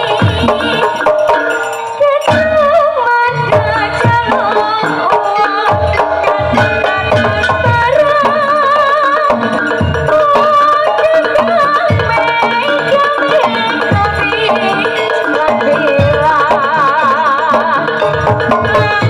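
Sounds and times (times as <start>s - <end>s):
gamelan ensemble: 0.0s - 19.0s
hand drum strikes: 0.0s - 19.0s
woman singing with vibrato: 1.9s - 19.0s.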